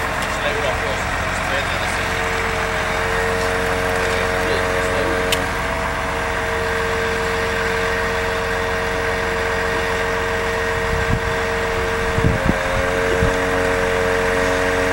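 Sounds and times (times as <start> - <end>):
truck engine droning: 0.0 - 14.9.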